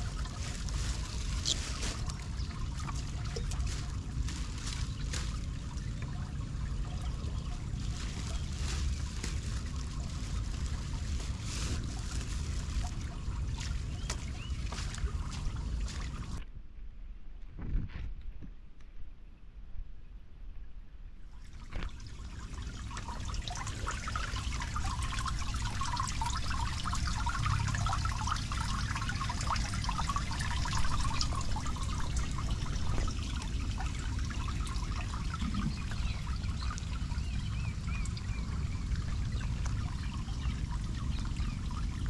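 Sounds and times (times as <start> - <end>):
water trickling into storm drain: 0.0 - 16.4, 21.3 - 42.0
steady low rumble: 0.0 - 17.9, 18.6 - 42.0.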